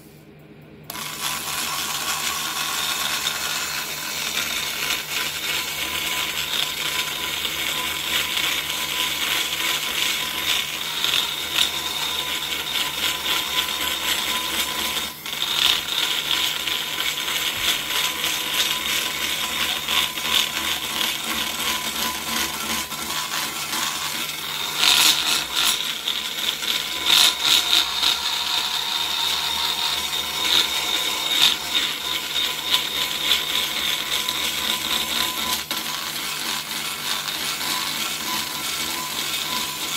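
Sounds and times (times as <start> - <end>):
die grinder whining against metal: 0.9 - 39.9.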